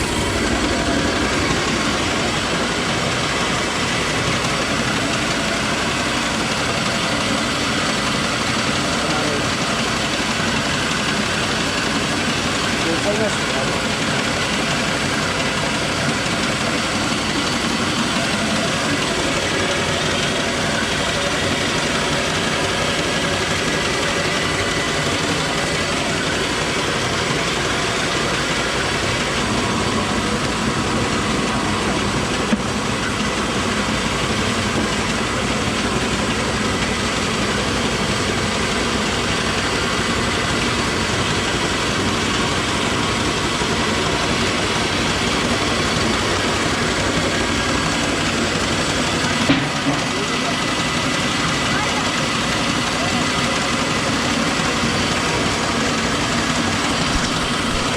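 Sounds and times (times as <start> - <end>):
grinding mill running: 0.0 - 57.9.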